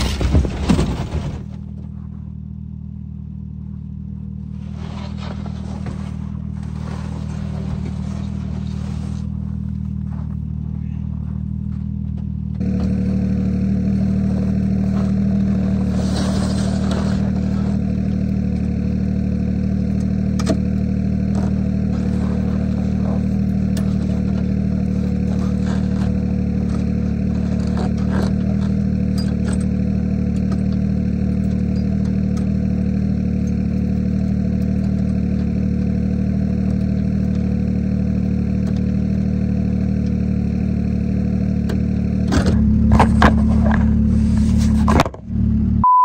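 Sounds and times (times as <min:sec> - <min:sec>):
snowmobile engine idling: 0:01.0 - 0:45.8.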